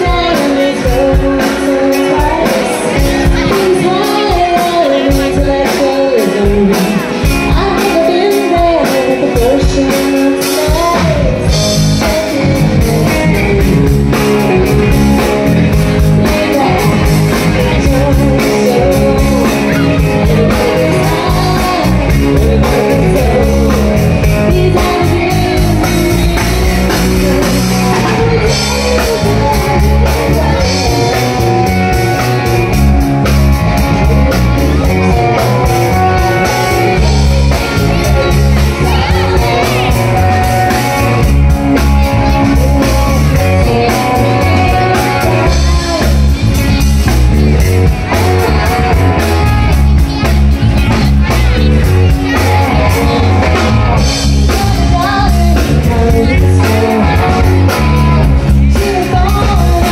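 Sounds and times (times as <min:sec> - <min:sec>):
woman singing: 0:00.0 - 0:32.9, 0:33.6 - 0:59.9
drum kit: 0:00.0 - 0:59.9
electric guitar: 0:00.0 - 0:59.9.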